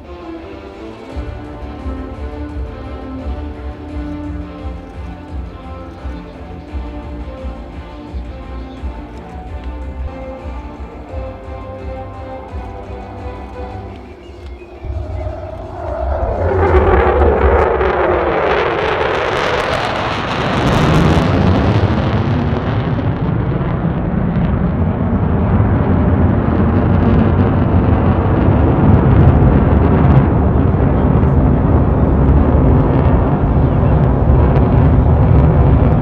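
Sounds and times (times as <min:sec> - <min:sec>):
jet fighters flying by: 0:00.0 - 0:36.0.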